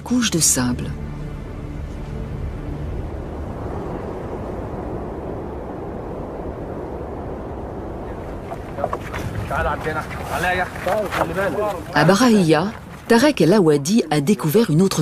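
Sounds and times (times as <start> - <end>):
low rumble of wind: 0.0 - 15.0.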